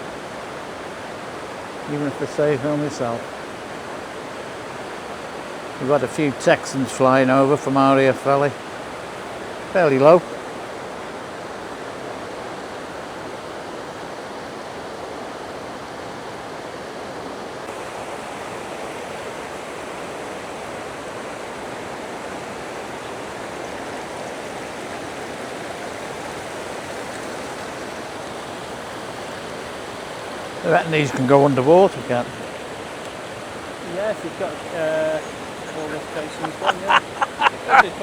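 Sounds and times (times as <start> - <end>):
stream rushing over rocks: 0.0 - 38.0.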